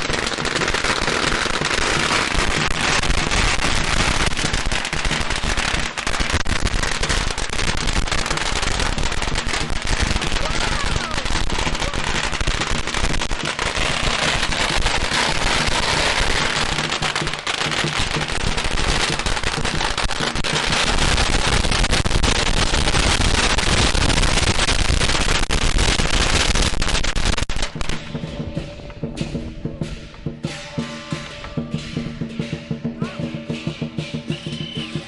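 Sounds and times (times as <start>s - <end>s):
firecrackers crackling: 0.0s - 35.0s.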